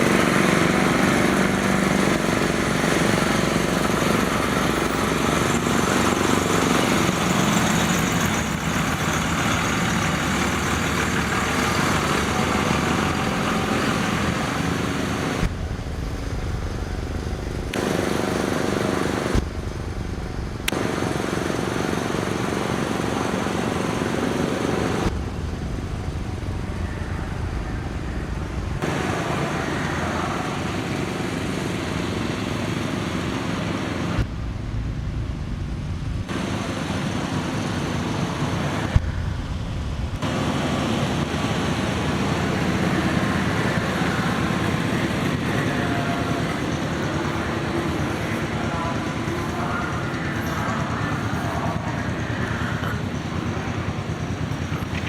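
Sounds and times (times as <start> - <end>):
farm engine running: 0.0 - 55.0.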